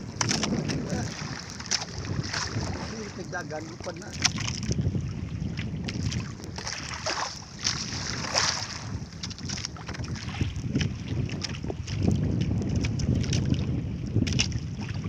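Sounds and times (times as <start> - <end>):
water splashing against hull: 0.0 - 15.0
wind buffeting microphone: 0.0 - 15.0.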